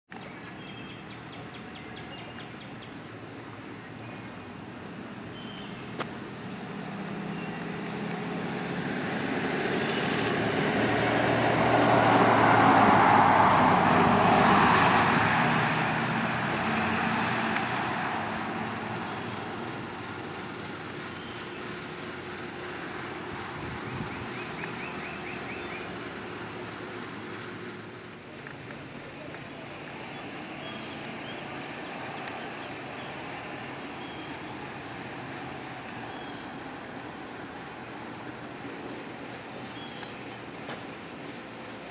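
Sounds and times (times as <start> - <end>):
ambulance engine and road noise: 0.1 - 41.9
truck driving past: 4.5 - 41.9.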